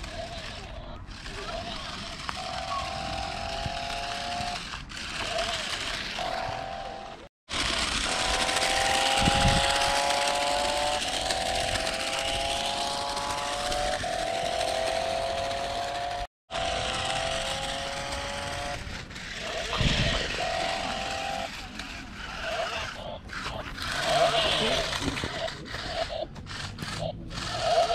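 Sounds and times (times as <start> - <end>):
toy car electric motor whine: 0.0 - 27.9.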